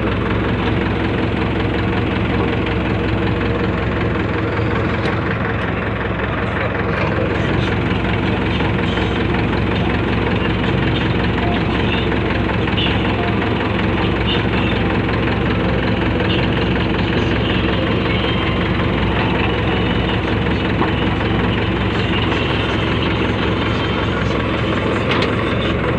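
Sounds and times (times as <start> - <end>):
heavy diesel engine running: 0.0 - 25.9.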